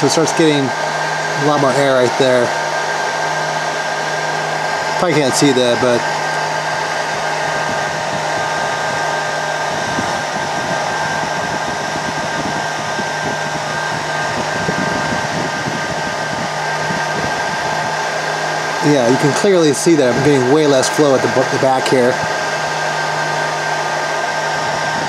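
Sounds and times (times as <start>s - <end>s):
cooling fans running: 0.0s - 25.0s.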